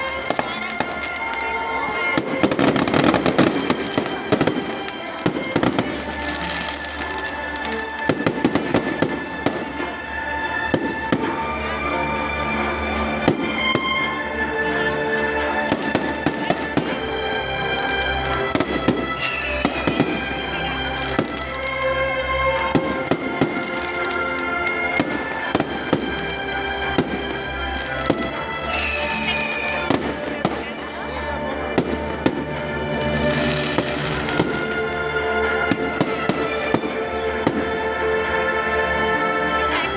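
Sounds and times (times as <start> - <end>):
fireworks banging: 0.0 - 11.8, 12.7 - 38.0
music with long held notes: 0.0 - 39.9.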